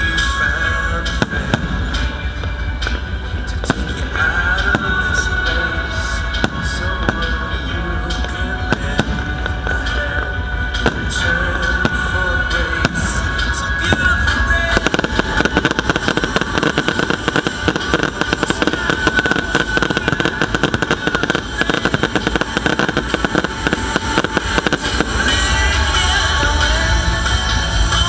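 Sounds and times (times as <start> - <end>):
fireworks crackling and banging: 0.0 - 28.0.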